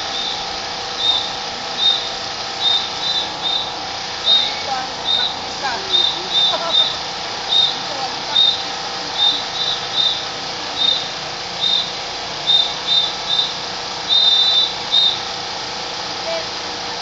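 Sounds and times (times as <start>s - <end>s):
whistle blasts: 0.0s - 15.3s.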